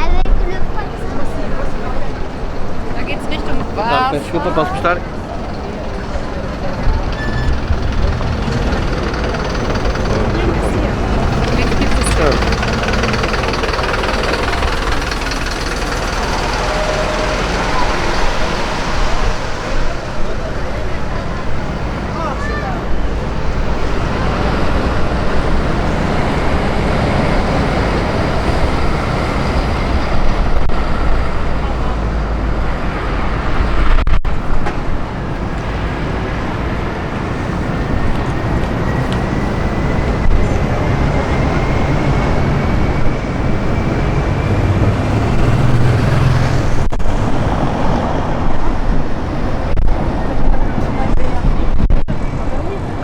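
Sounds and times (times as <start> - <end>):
road traffic passing: 0.0 - 53.0
wind buffeting microphone: 0.0 - 53.0.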